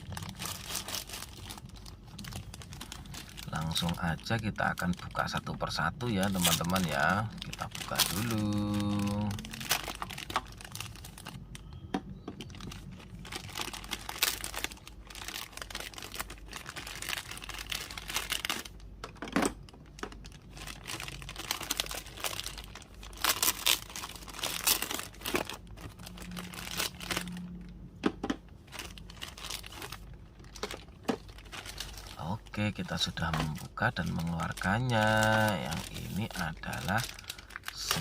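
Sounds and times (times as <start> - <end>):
packaging tearing: 0.0 - 11.4, 12.5 - 18.8, 20.2 - 27.5, 28.7 - 38.0
plastic packaging crinkling: 0.0 - 38.0.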